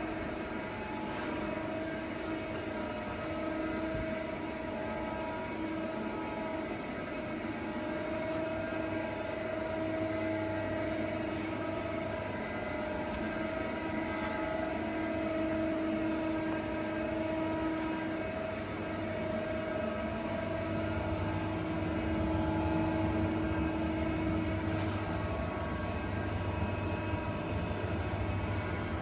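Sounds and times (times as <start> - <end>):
lathe machine hum: 0.0 - 29.0
machine whine: 0.0 - 29.0.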